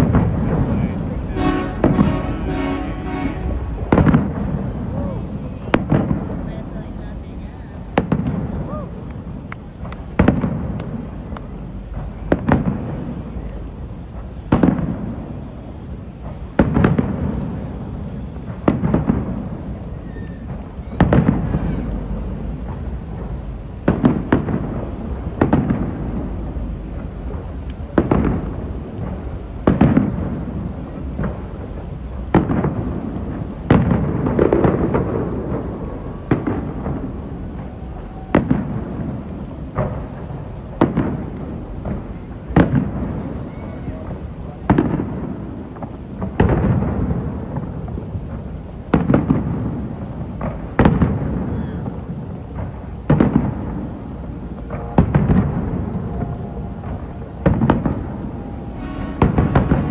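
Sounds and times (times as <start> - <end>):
fireworks booming: 0.0 - 59.9
rolling echo rumble: 0.0 - 59.9.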